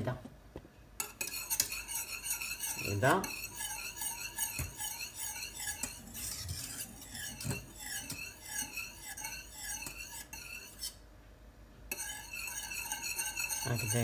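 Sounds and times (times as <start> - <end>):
whisk scraping a metal saucepan: 1.0 - 11.0, 11.9 - 14.0.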